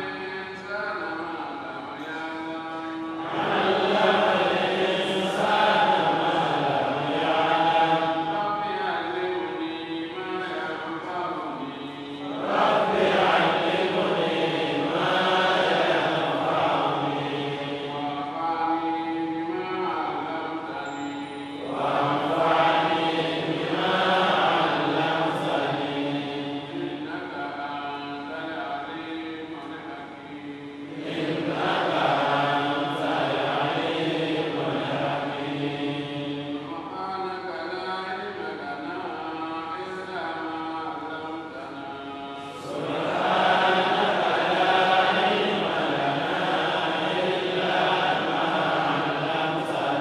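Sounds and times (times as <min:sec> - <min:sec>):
man chanting melodically: 0:00.0 - 0:50.0.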